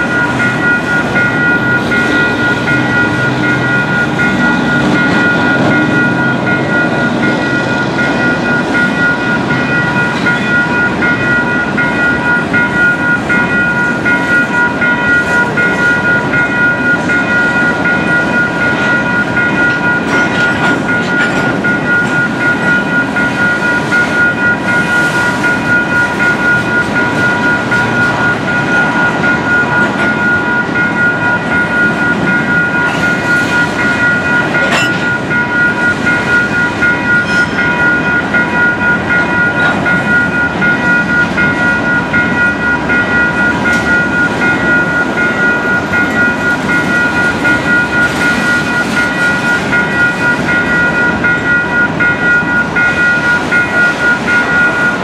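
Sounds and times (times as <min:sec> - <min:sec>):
crossing signal bell ringing: 0:00.0 - 0:55.0
freight train wheels rumbling: 0:00.0 - 0:55.0.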